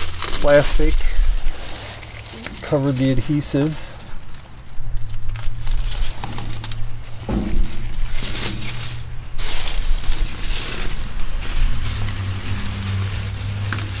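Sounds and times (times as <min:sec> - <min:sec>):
plastic strip crinkling as peeled: 0:00.0 - 0:14.0.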